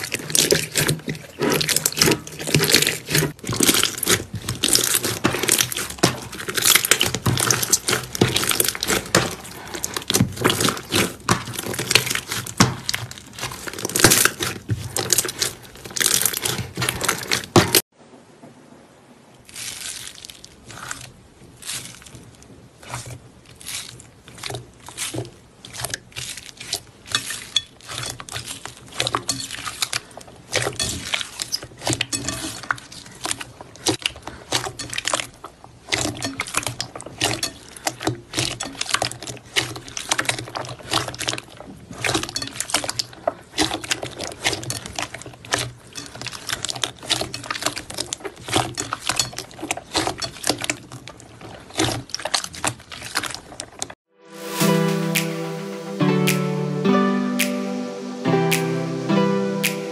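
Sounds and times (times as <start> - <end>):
slime squelching and popping: 0.0 - 17.9, 19.5 - 54.0.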